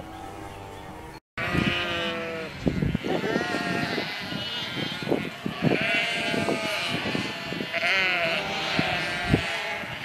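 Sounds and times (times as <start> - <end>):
sheep and lambs bleating: 1.4 - 10.0.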